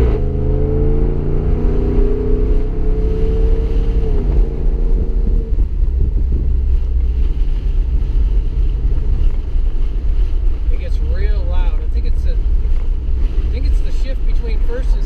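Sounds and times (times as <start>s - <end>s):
engine exhaust drone from inside car: 0.0s - 15.0s.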